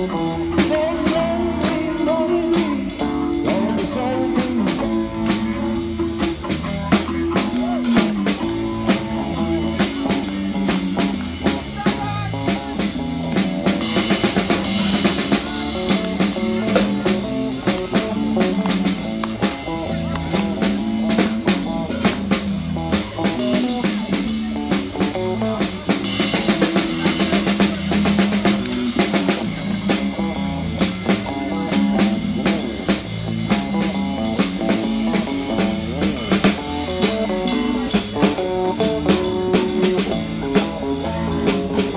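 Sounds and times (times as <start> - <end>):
bass line: 0.0 - 41.9
drum kit snare and cymbal beat: 0.0 - 41.9
strummed guitars: 0.0 - 41.9.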